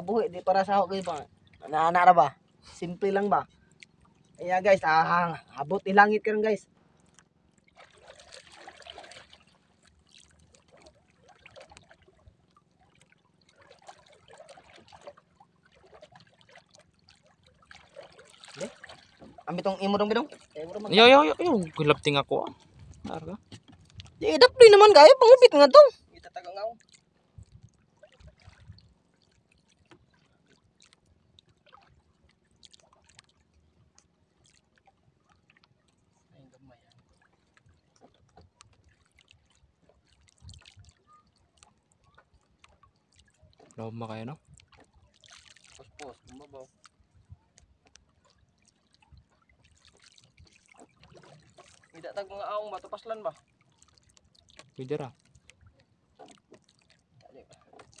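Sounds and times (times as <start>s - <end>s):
water lapping against a boat hull: 0.0s - 58.0s
small splashes: 6.8s - 58.0s.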